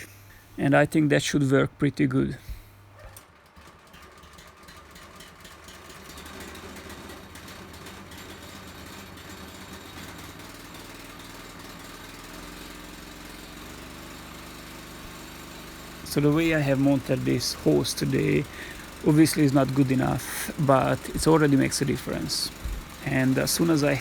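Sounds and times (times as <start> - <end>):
petrol engine running: 0.0 - 24.0.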